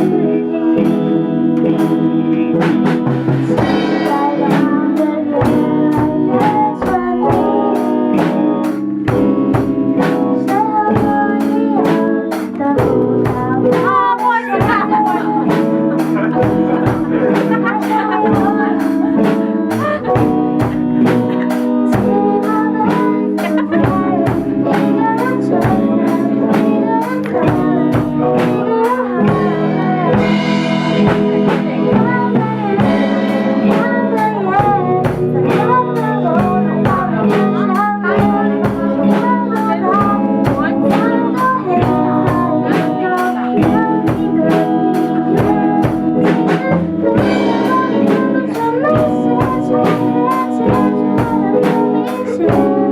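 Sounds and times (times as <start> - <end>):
drum kit steady beat: 0.0 - 52.9
guitar: 0.0 - 52.9
person singing: 0.0 - 52.9.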